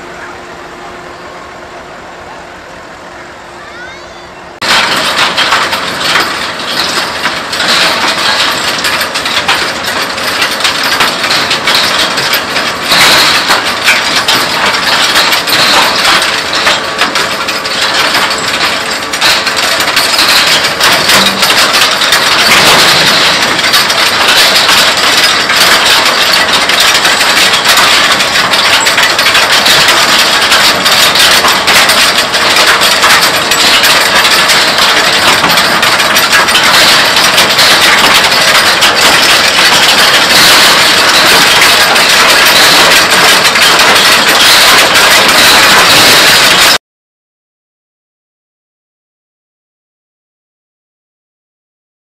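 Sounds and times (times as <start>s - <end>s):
tractor diesel engine running: 0.0s - 46.8s
stones clattering against metal: 4.6s - 46.8s.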